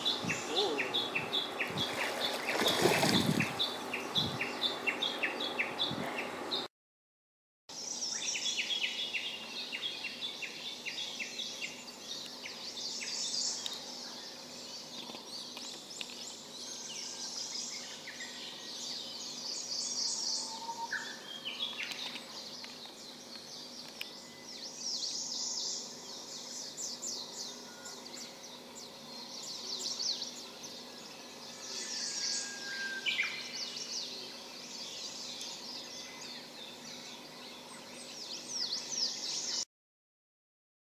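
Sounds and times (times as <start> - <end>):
birds calling and singing: 0.0 - 6.7, 7.7 - 39.6.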